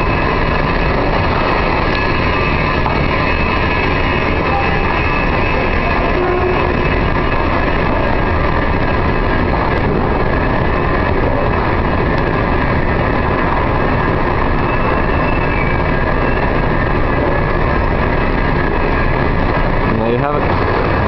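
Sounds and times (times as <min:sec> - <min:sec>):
escalator mechanical din: 0:00.0 - 0:21.0.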